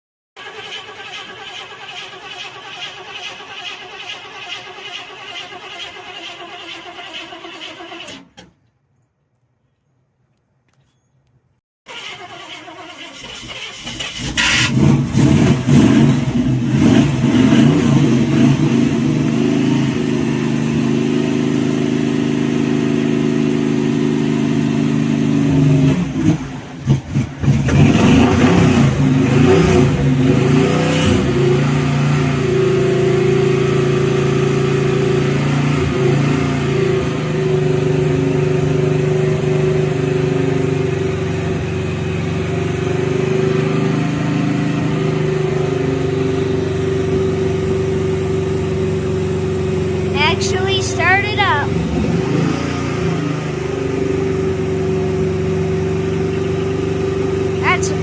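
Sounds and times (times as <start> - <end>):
car engine starting and idling: 0.4 - 8.6, 11.9 - 22.9, 24.3 - 58.0.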